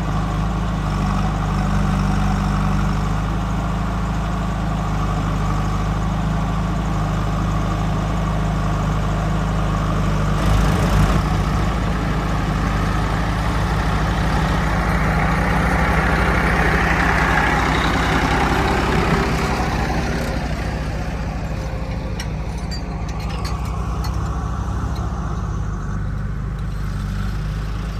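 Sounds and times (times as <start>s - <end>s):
heavy diesel engine running: 0.0s - 27.9s.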